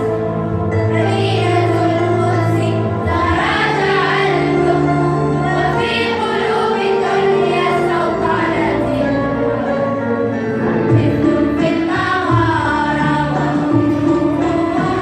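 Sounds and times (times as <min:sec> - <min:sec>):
children's choir singing: 0:00.0 - 0:15.0
instrumental accompaniment: 0:00.0 - 0:15.0.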